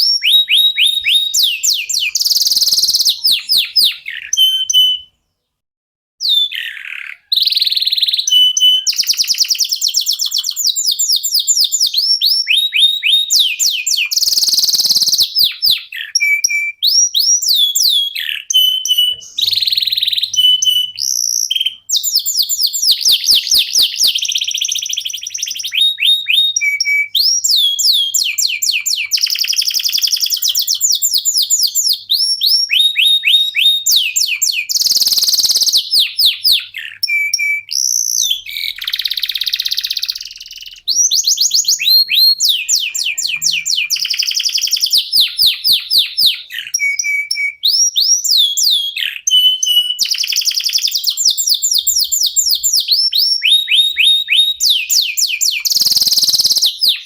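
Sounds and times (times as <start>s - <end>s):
canary singing trills: 0.0s - 5.6s, 6.2s - 57.0s.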